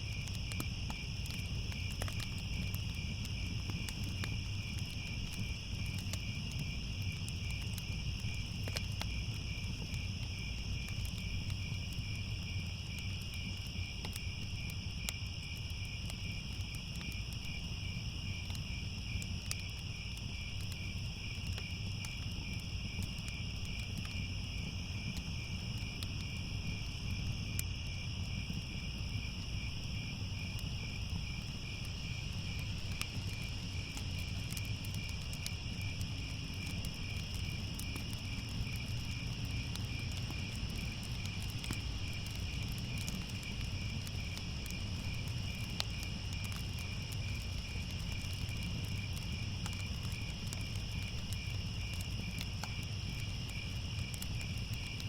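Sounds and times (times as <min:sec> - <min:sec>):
crickets chirping: 0:00.0 - 0:55.0
faint crackles: 0:00.0 - 0:55.0.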